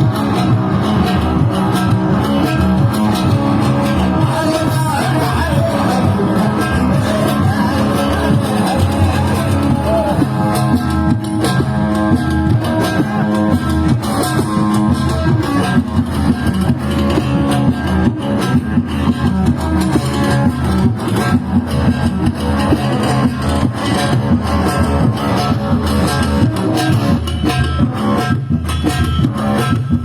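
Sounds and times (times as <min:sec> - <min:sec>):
bass guitar: 0:00.0 - 0:30.0
drums with steady beat: 0:00.0 - 0:30.0
plucked string instruments: 0:00.0 - 0:30.0.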